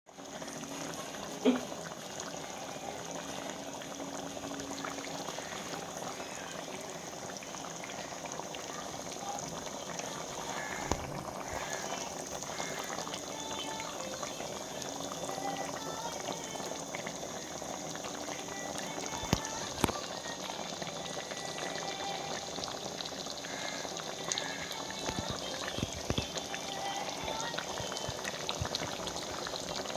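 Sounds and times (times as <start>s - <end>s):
curry bubbling and popping: 0.1s - 29.9s.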